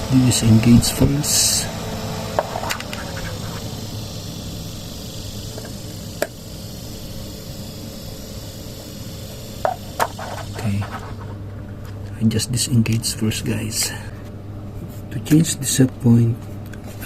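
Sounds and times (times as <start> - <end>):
refrigeration compressor hum: 0.0 - 17.0.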